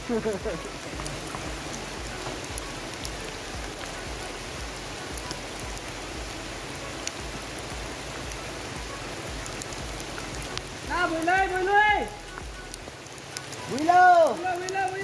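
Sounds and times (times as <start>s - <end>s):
raindrops ticking near microphone: 0.0s - 15.0s
steady rain hiss: 0.0s - 15.0s.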